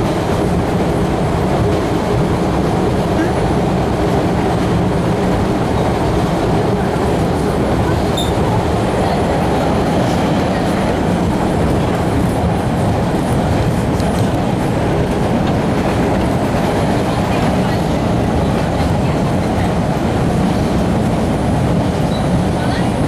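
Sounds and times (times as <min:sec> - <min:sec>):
subway train wheels rumbling: 0:00.0 - 0:23.0.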